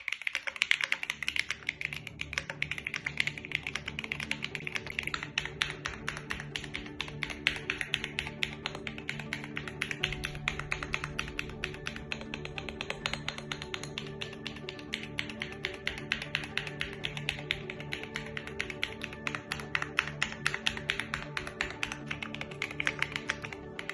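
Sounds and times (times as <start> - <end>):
background music: 0.0 - 23.9
mechanical keyboard typing: 0.0 - 23.9.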